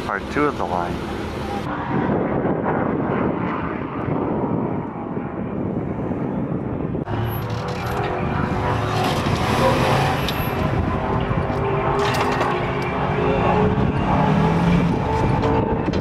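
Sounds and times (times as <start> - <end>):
off-road vehicle engines droning: 0.0 - 16.0
outdoor noise: 0.0 - 16.0.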